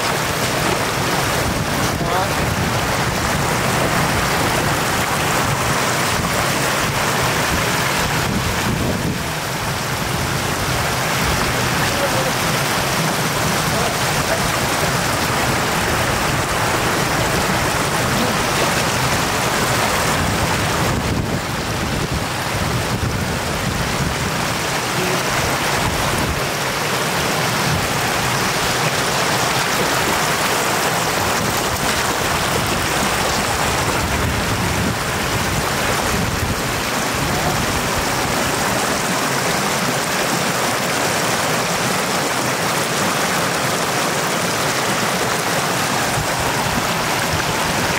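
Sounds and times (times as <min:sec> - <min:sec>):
floodwater rushing across road: 0:00.0 - 0:47.9.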